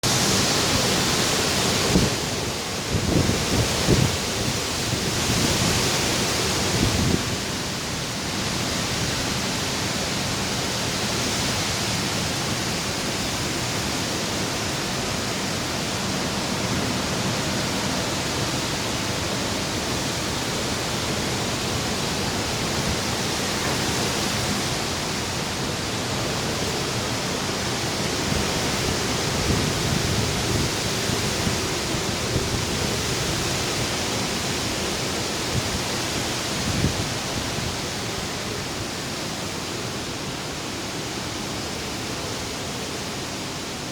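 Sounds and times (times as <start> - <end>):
strong wind buffeting microphone: 0.0 - 10.2, 10.8 - 39.4.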